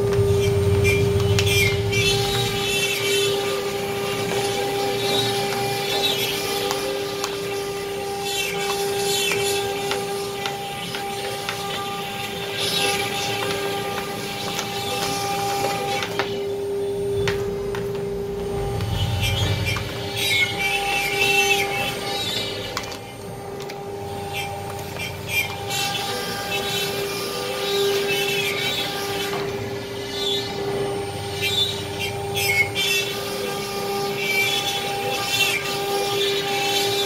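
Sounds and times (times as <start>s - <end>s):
bit rasping through wood: 0.0s - 17.2s, 18.4s - 37.0s
router spindle whine: 0.0s - 37.0s.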